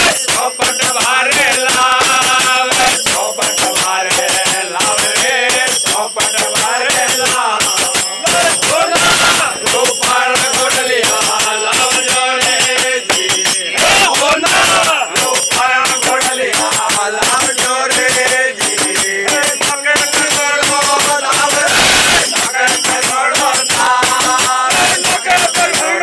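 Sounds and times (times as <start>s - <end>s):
hand drum: 0.0s - 26.0s
hand-clapping: 0.0s - 26.0s
jingling percussion: 0.0s - 26.0s
men singing in unison: 0.0s - 26.0s.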